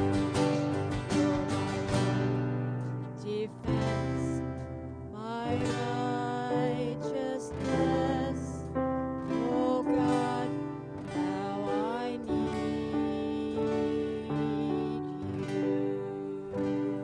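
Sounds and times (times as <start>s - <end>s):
acoustic guitar: 0.0s - 17.0s
electric keyboard: 0.0s - 17.0s
woman singing slow melody: 3.0s - 17.0s.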